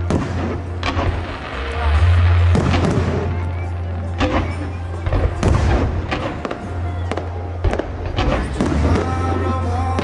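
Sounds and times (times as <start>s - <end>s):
fireworks cracks and booms: 0.0s - 10.0s
music playing: 0.0s - 10.0s.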